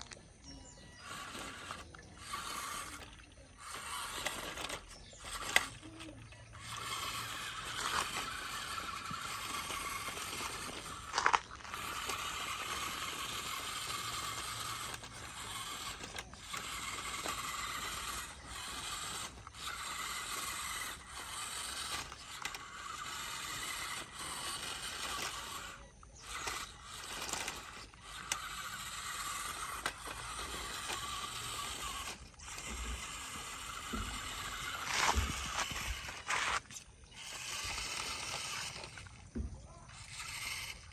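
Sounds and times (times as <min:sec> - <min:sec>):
toy motor and gearbox whirring: 0:00.0 - 0:40.9.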